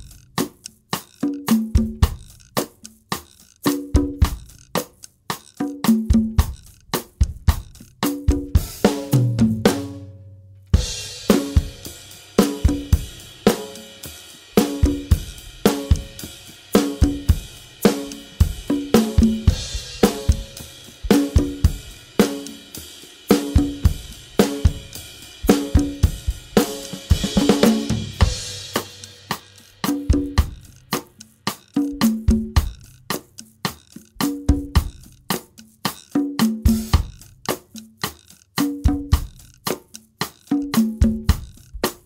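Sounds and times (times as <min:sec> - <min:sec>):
drum kit and percussion groove: 0:00.0 - 0:42.0.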